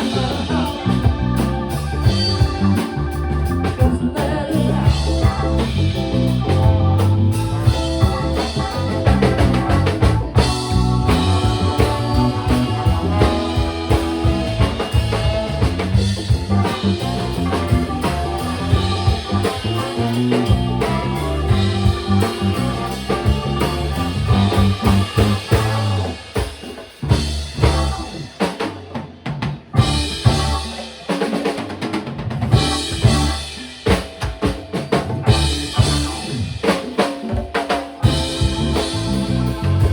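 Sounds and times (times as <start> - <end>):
funk band playing: 0.0 - 39.9
drums hitting: 4.8 - 39.9.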